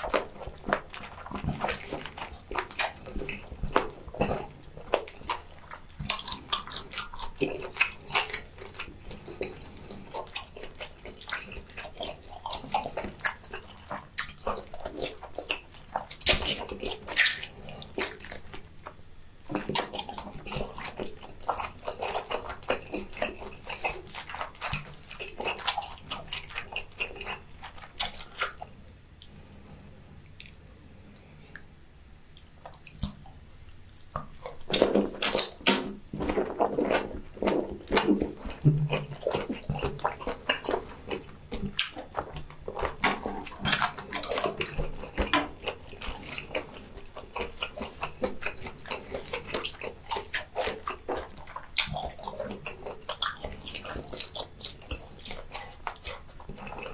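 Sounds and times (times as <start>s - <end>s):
wet chewing with sticky smacks: 0.0s - 56.9s.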